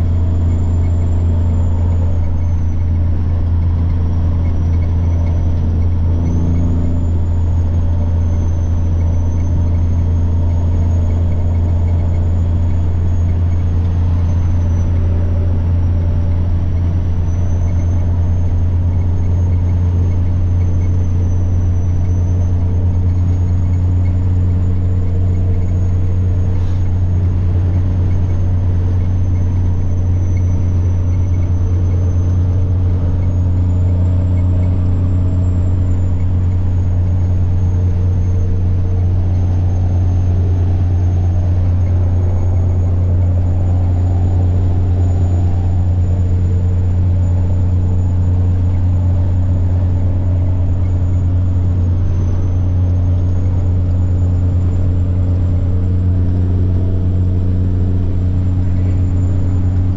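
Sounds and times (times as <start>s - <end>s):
diesel truck engine drone: 0.0s - 59.9s
turbo whine: 0.0s - 59.9s.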